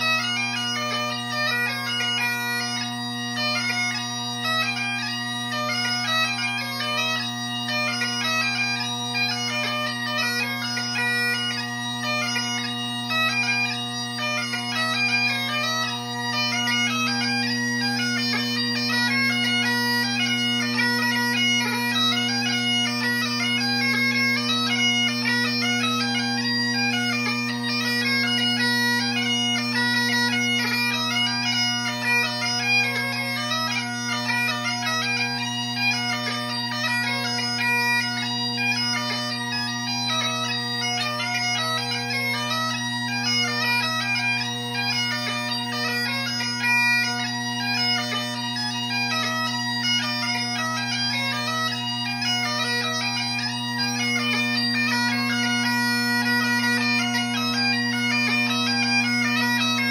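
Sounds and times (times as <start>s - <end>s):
bagpipe playing a jig: 0.0s - 59.9s.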